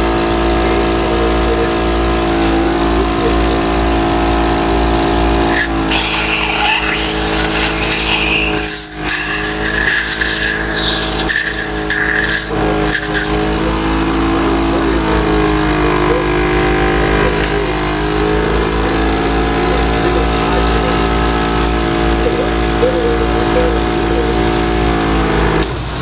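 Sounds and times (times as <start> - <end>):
electric percussor buzzing: 0.0 - 26.0.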